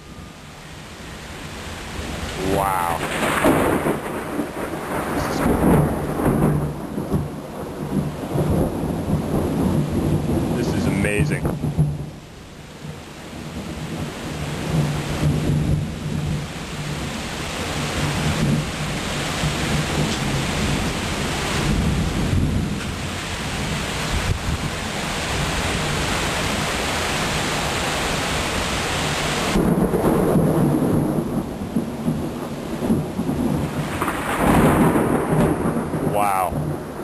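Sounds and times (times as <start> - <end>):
heavy rain pouring: 0.0 - 37.0
thunder rumbling: 1.9 - 12.2, 12.8 - 26.8, 29.4 - 37.0.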